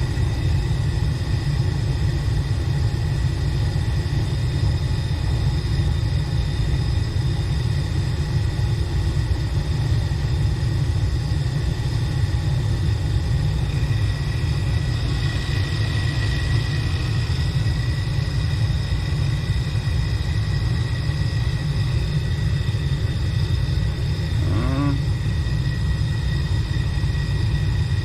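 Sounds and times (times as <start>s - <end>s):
furnace motor low rumble: 0.0s - 28.0s
high-pitched whine: 0.0s - 28.0s.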